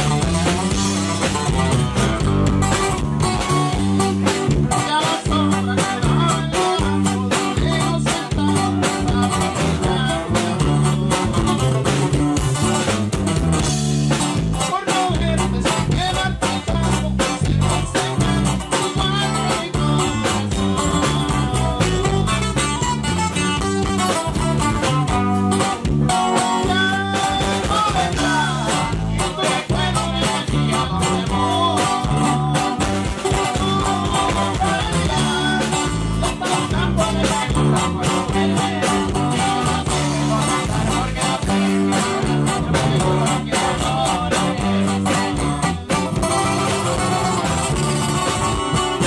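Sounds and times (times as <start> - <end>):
live band playing: 0.0 - 49.0
picked guitar melodic run: 0.0 - 49.0.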